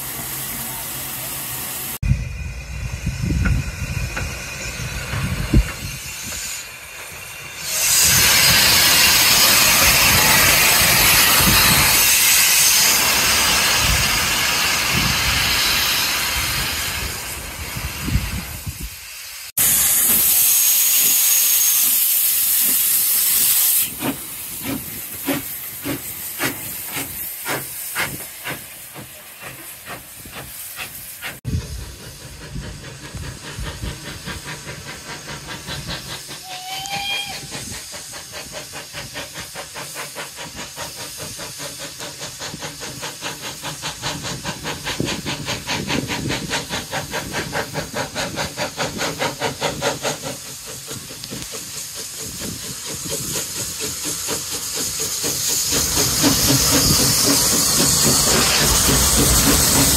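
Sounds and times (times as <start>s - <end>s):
steam hissing from locomotive: 0.0s - 59.9s
steam locomotive exhaust chuffs: 0.0s - 59.9s.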